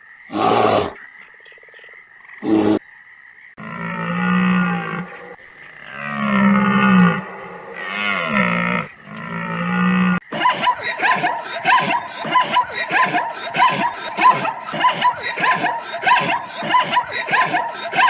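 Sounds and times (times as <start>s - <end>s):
long pitched animal calls: 2.4s - 2.8s, 3.6s - 18.0s.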